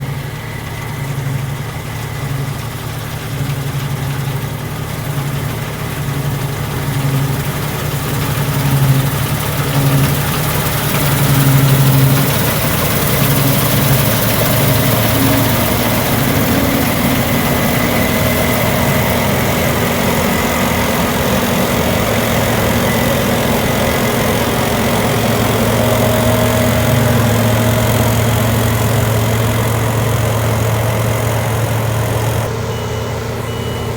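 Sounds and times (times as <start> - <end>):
engine running steadily: 0.0 - 33.9
threshing mechanism noise: 0.1 - 32.5.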